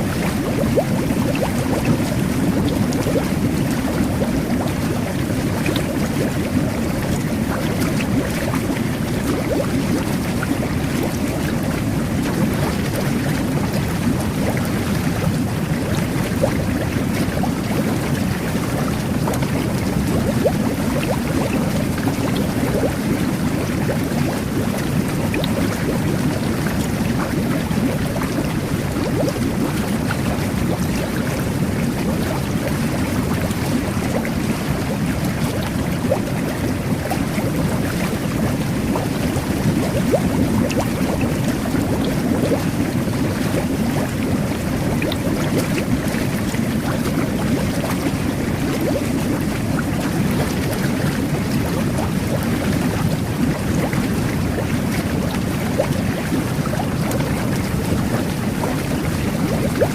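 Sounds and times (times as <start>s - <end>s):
whirlpool jets churning water: 0.0s - 59.9s.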